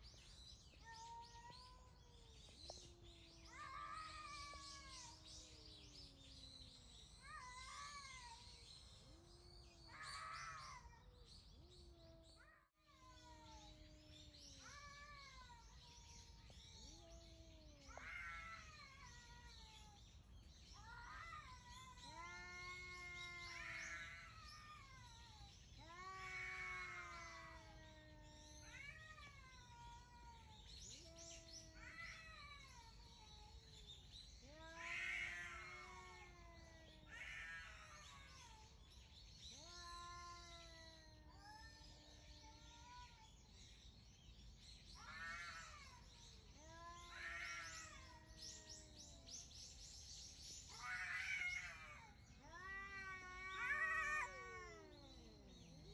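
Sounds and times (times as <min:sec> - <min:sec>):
cats yowling: 0:00.2 - 0:43.6, 0:44.8 - 0:55.9.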